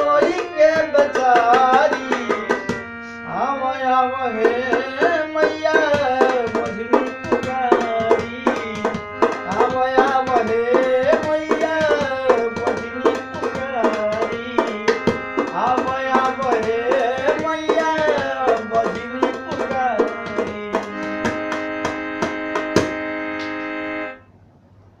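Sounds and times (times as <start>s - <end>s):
tabla playing a rhythm: 0.0s - 3.0s, 4.0s - 24.1s
bending instrumental melody: 0.0s - 24.3s.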